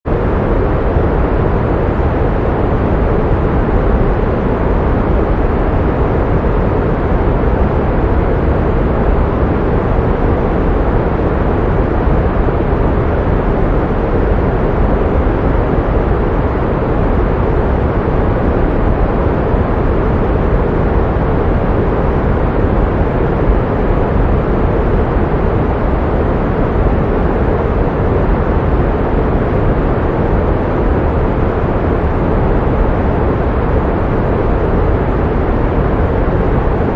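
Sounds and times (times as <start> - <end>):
pink noise hiss: 0.1 - 36.9.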